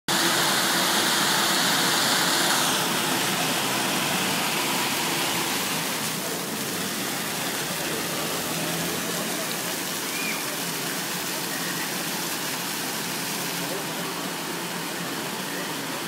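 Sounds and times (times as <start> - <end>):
fountain water jets splashing: 0.1 - 16.0.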